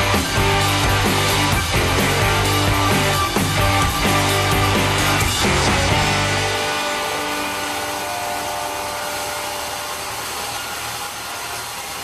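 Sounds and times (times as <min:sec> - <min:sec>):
music track held notes: 0:00.0 - 0:12.0
sawmill saw running: 0:00.0 - 0:12.0.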